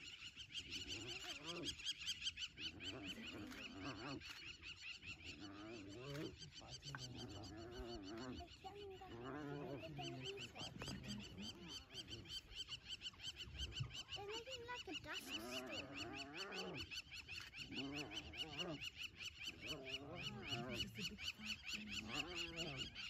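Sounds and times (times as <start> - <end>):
wild dogs and hyenas yelping: 0.7 - 1.9, 2.5 - 23.0.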